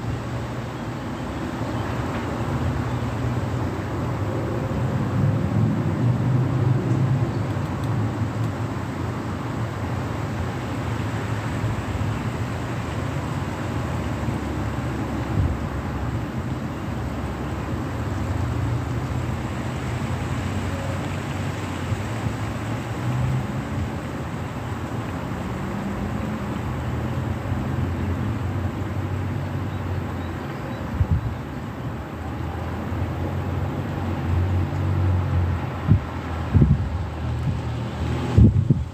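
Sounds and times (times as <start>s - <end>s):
low engine hum of traffic: 0.0s - 38.9s
tyres hissing on wet road: 0.0s - 38.9s.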